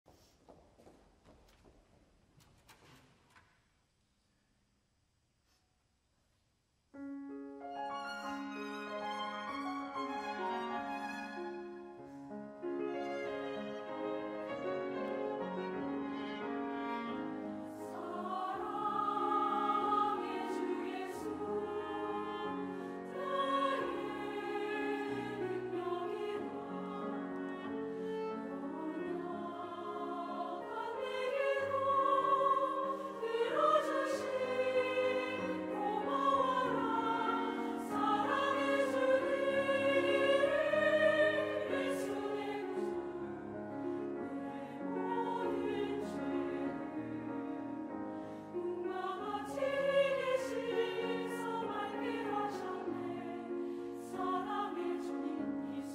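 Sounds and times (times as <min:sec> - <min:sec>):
choir singing: 0:08.0 - 0:11.7, 0:13.0 - 0:55.9.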